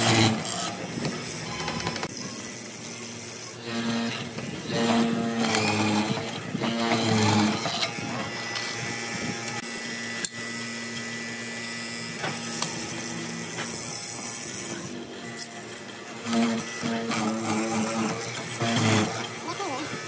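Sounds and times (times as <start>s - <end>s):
mortiser boring into wood: 0.0s - 20.0s.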